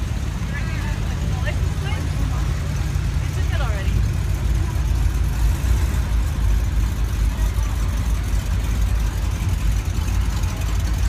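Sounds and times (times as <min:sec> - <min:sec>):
car engine rumbling past: 0:00.0 - 0:11.0.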